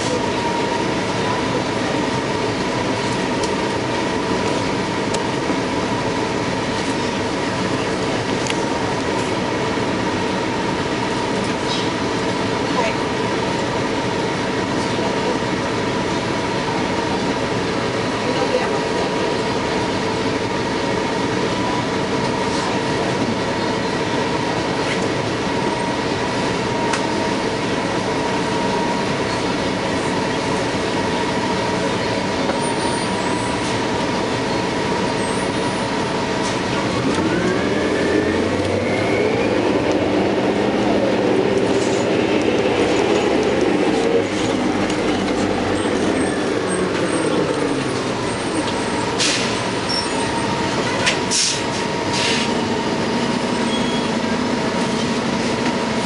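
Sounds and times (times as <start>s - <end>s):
bus engine whine: 0.0s - 56.0s.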